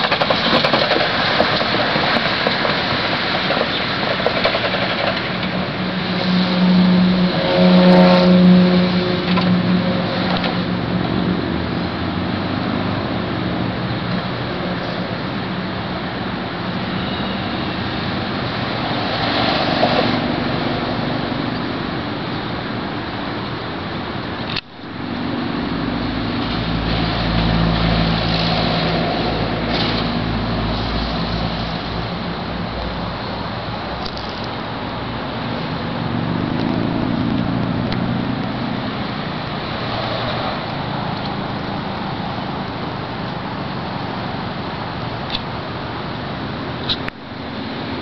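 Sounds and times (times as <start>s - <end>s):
road noise: 0.0s - 48.0s
vehicle engine humming: 0.0s - 48.0s.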